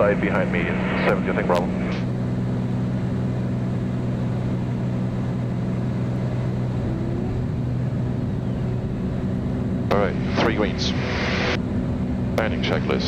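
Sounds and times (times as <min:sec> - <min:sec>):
plane engine and propeller droning: 0:00.0 - 0:13.0.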